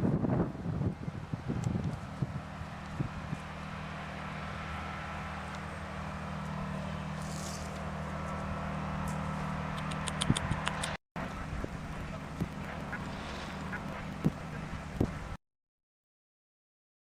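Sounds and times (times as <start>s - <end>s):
low mechanical hum: 0.0s - 15.4s.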